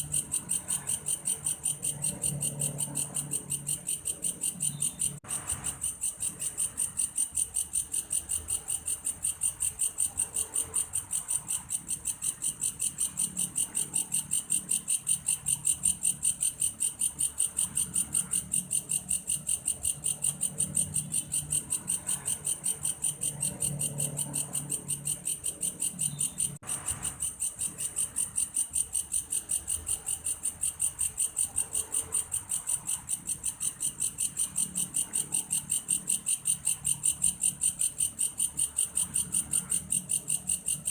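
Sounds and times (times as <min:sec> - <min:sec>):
insect chirring: 0:00.0 - 0:40.9.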